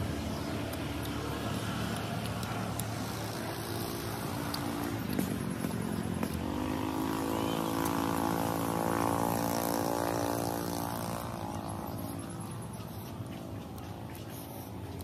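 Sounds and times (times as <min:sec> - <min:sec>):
engine passing by: 0:00.0 - 0:15.0.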